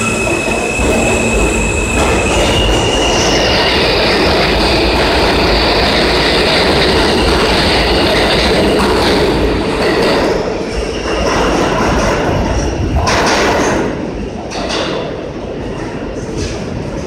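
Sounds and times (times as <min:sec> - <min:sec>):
subway train rail noise: 0:00.0 - 0:17.0.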